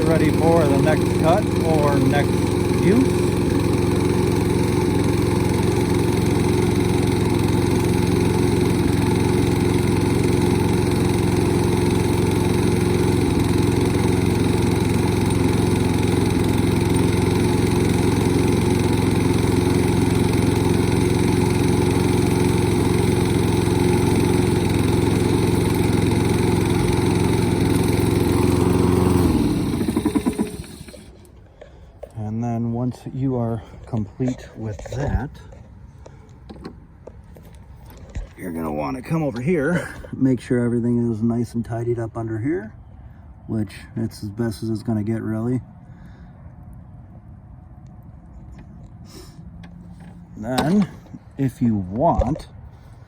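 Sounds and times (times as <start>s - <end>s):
lawn mower engine running: 0.0s - 42.2s, 48.3s - 53.0s.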